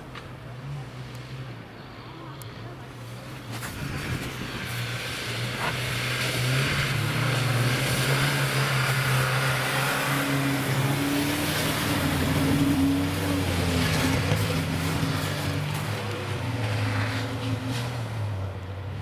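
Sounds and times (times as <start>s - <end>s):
suv engine running hard: 0.8s - 19.0s.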